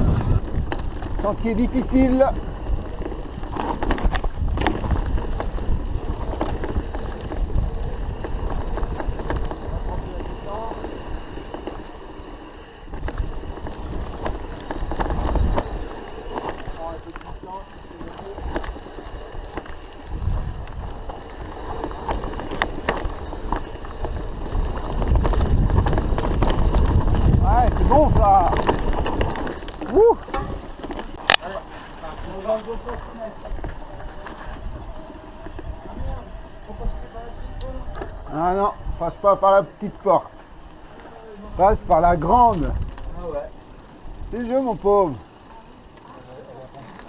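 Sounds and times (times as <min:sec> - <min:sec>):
wind buffeting microphone: 0:00.0 - 0:31.4, 0:32.2 - 0:46.0
bike knocking and rattling: 0:00.0 - 0:47.0
bike tyres rumbling on trail: 0:00.0 - 0:47.0.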